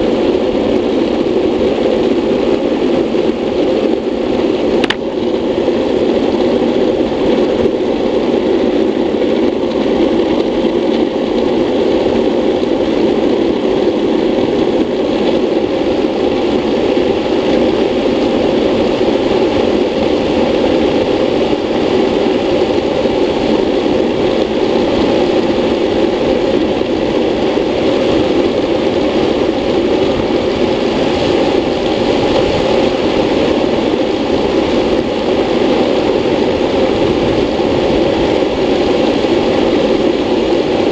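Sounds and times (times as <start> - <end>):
wheels rolling on asphalt: 0.0 - 40.9
wind noise: 0.0 - 40.9.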